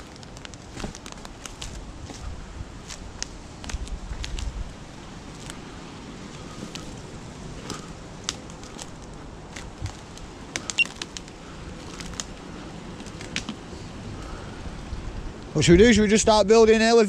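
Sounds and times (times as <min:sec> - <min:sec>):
twigs snapping underfoot: 0:00.0 - 0:05.7, 0:06.3 - 0:14.4.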